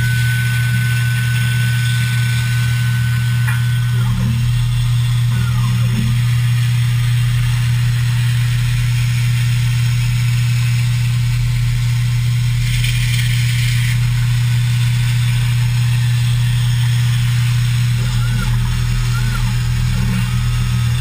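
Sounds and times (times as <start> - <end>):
plasma cutter hum and hiss: 0.0 - 21.0.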